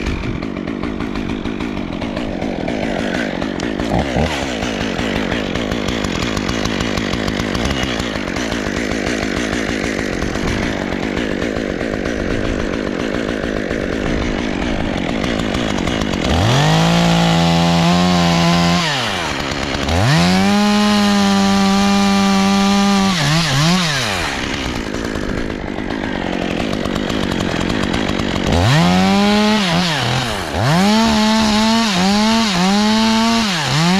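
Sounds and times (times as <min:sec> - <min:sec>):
chainsaw running and revving: 0:00.0 - 0:33.9.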